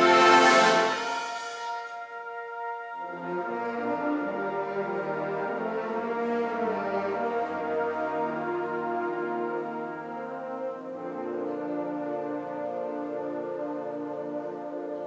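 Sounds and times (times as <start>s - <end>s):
wind orchestra playing: 0.0s - 15.0s.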